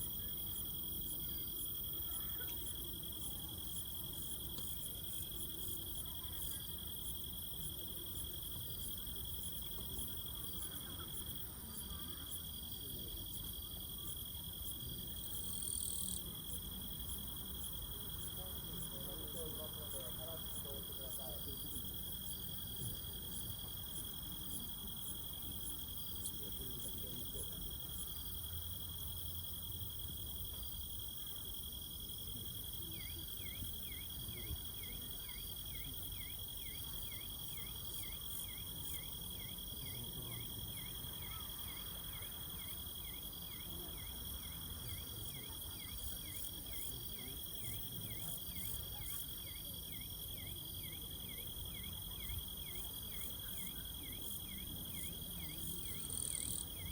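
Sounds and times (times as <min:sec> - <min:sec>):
night insects chirring: 0:00.0 - 0:56.9.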